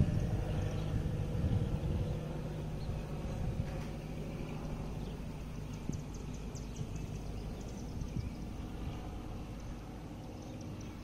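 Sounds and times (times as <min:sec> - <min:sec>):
propeller plane droning overhead: 0:00.0 - 0:11.0.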